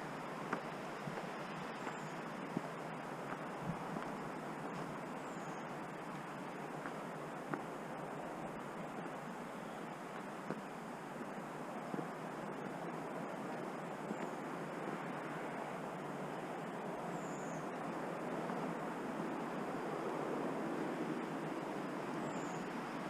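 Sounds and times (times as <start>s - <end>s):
steady outdoor rushing noise: 0.0s - 23.0s.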